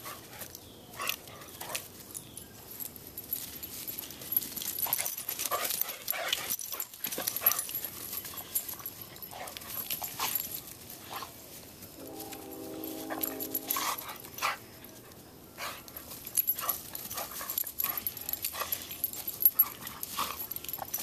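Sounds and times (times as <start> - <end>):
dogs play-fighting: 0.0 - 11.4, 13.1 - 21.0.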